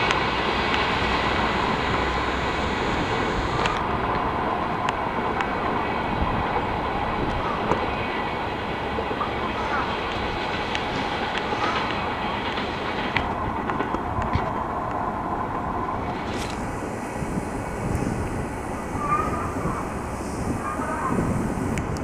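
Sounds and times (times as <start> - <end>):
train wheels on track: 0.0 - 22.0.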